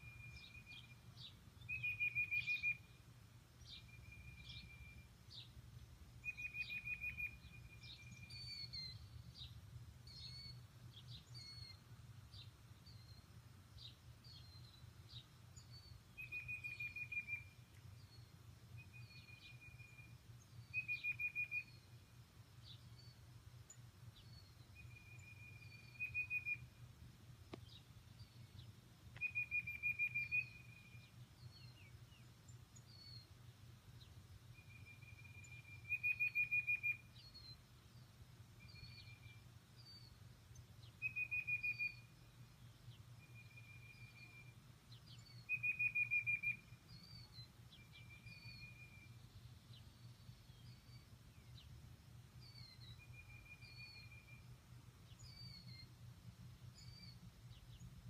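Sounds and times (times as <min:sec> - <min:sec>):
whistled bird notes: 0:00.0 - 0:03.0, 0:03.6 - 0:05.5, 0:06.2 - 0:09.5, 0:10.1 - 0:13.2, 0:13.8 - 0:23.2, 0:24.2 - 0:26.8, 0:27.6 - 0:33.2, 0:34.5 - 0:37.6, 0:38.6 - 0:40.2, 0:40.8 - 0:42.1, 0:43.2 - 0:51.7, 0:52.4 - 0:55.9, 0:56.7 - 0:57.8
rapidly pulsed bird trill: 0:00.0 - 0:05.6, 0:06.2 - 0:11.9, 0:14.0 - 0:27.0, 0:28.1 - 0:33.5, 0:34.1 - 0:58.0
faint low hum: 0:00.0 - 0:58.0.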